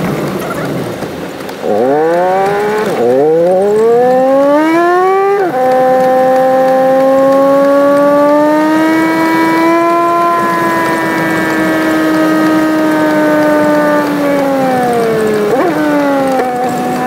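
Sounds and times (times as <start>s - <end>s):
car engine accelerating and shifting: 0.0s - 17.0s.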